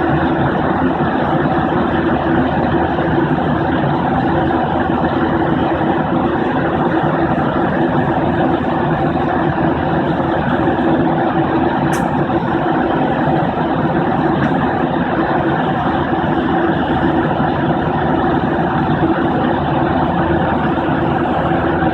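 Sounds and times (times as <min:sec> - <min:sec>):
airplane cabin drone: 0:00.0 - 0:21.9.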